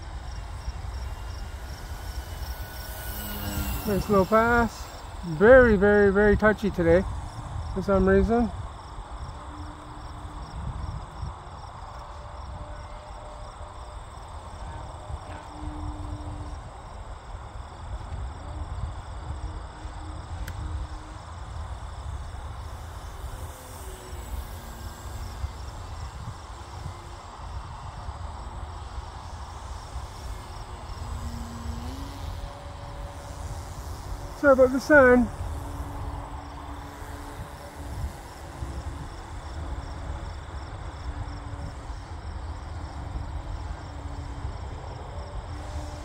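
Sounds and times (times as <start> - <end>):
insects chirping: 0.0 - 46.0
wind rumble on microphone: 0.0 - 46.0.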